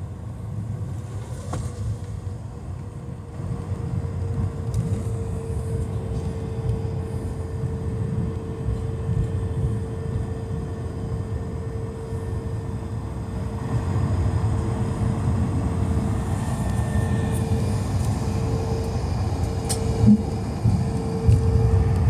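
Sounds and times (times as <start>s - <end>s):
airplane cabin rumble on runway: 0.0s - 22.0s.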